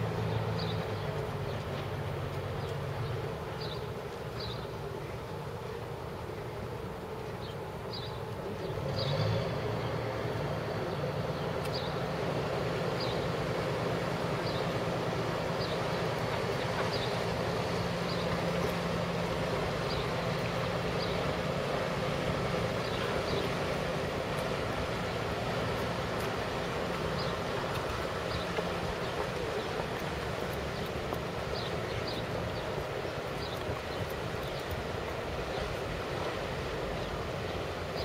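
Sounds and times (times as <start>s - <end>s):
city and water noise: 0.0s - 38.0s
motor boat engine drone: 0.0s - 38.0s.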